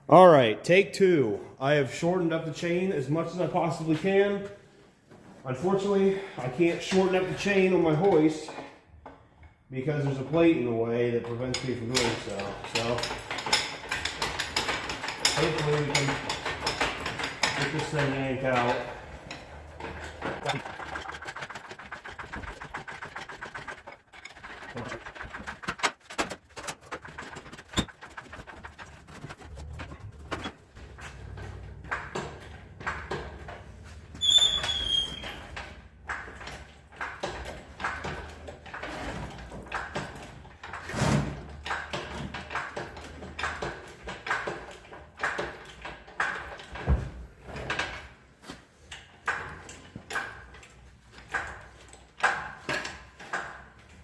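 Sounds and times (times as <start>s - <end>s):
engine hoist creaking and clanking: 10.0s - 54.0s.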